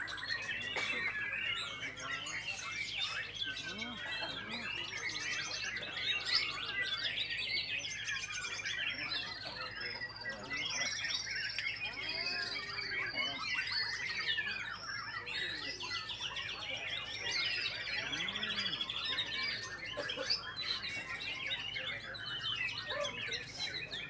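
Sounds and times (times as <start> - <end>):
birds whistling and trilling: 0.0 - 24.0.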